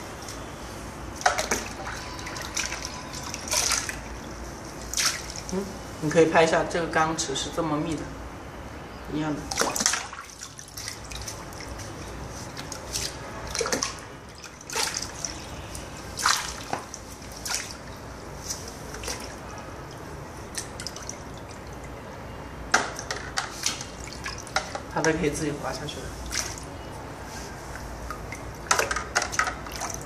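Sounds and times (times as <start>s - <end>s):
water dripping and splashing into basin: 1.1s - 5.7s, 9.3s - 26.8s, 27.6s - 30.0s.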